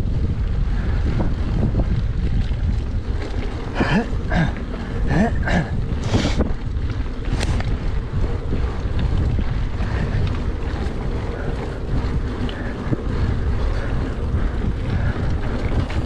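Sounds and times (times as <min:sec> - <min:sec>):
bike rolling over dirt: 0:00.0 - 0:16.0
wind buffeting microphone: 0:00.0 - 0:16.0.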